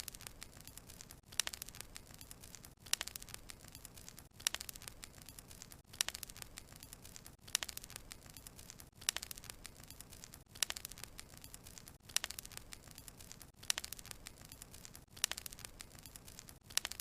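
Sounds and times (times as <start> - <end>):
logs crackling in fireplace: 0.0 - 17.0.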